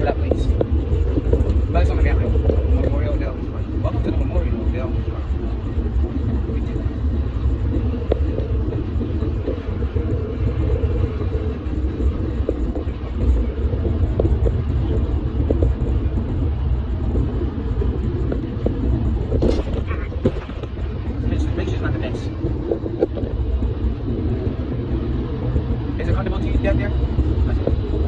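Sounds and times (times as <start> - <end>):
golf cart rumbling: 0.0 - 28.0.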